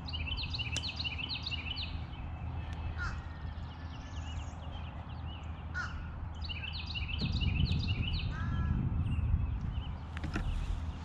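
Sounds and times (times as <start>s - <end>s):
wild birds calling: 0.0s - 11.0s
low microphone rumble: 1.6s - 11.0s.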